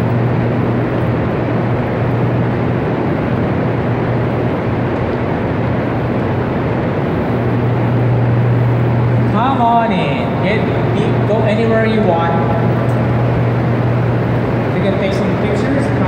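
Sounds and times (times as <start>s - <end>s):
low electrical hum: 0.0s - 16.0s
power plant machinery roar: 0.0s - 16.0s.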